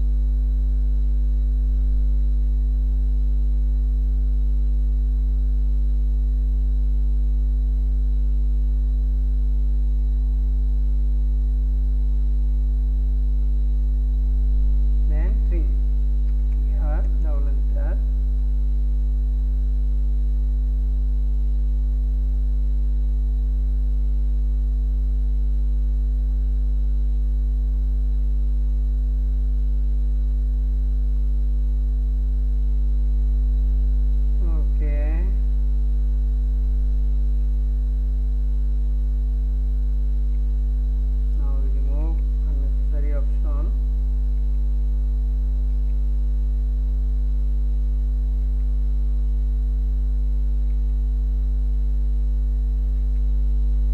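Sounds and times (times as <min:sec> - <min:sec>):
electrical mains hum: 0:00.0 - 0:53.9.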